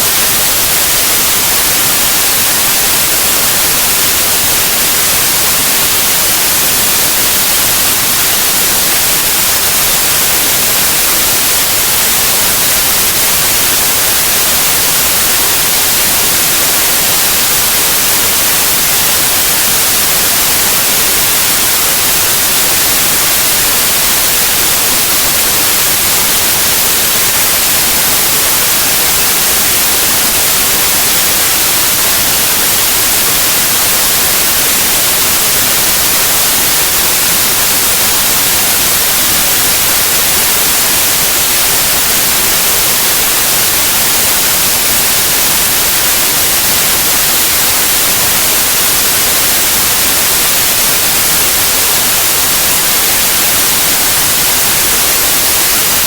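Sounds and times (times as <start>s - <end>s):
loud white noise: 0.0s - 56.0s.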